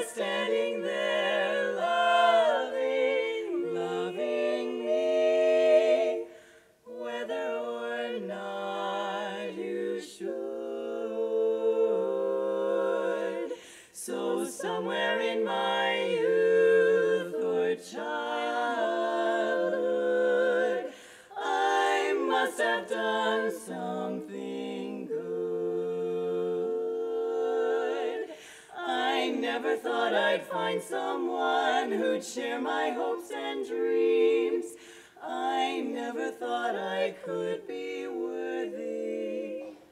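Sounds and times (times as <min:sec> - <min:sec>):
women singing a cappella harmony: 0:00.0 - 0:39.9.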